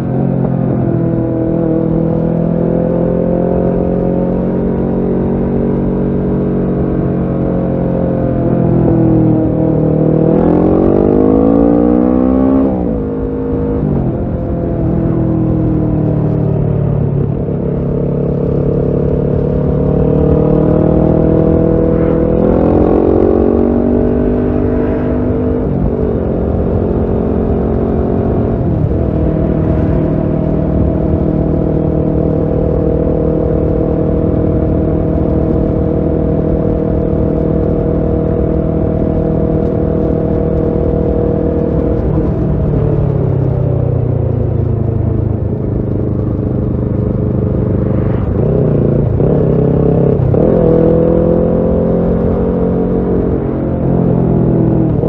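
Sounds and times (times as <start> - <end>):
low wind rush: 0.0 - 55.0
motorcycle engine revving: 0.0 - 55.0.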